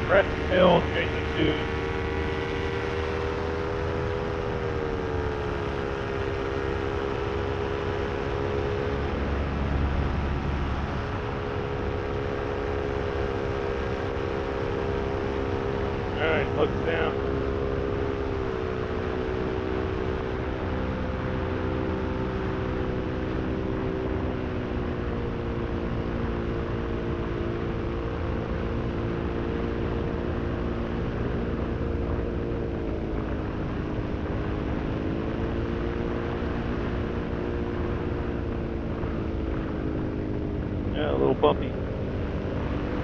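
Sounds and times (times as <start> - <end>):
paramotor engine running: 0.0 - 43.0.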